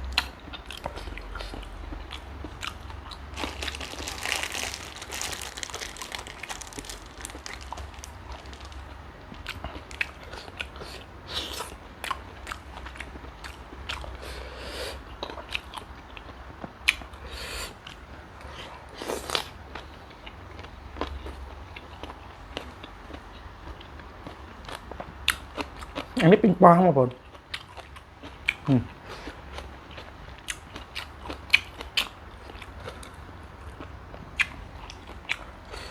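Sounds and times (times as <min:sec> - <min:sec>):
crunching and chewing: 0:00.1 - 0:26.2, 0:27.2 - 0:35.9.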